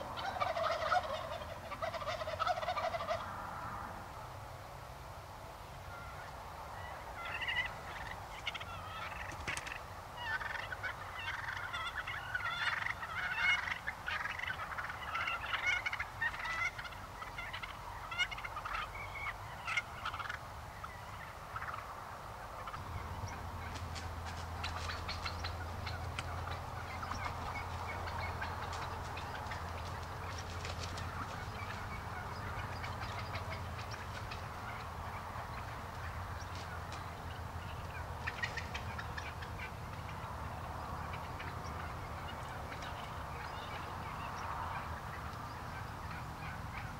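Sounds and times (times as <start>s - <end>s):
turkeys gobbling: 0.0s - 4.1s, 5.8s - 46.9s
low steady hum: 0.0s - 46.9s.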